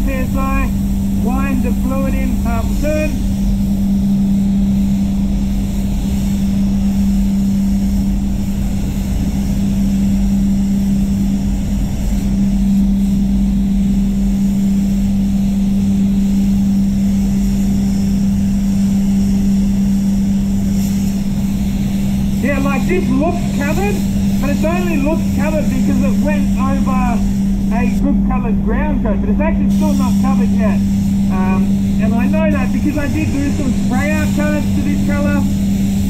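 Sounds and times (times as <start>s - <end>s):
spray booth fans humming: 0.0s - 36.0s
spray gun hissing: 0.0s - 36.0s.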